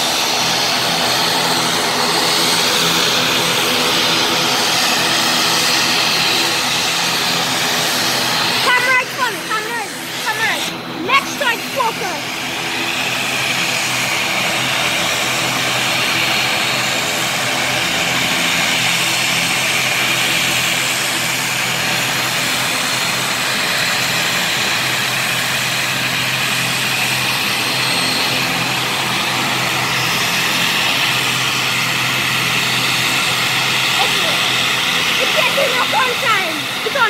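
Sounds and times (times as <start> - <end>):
turboprop engines droning: 0.0 - 37.0.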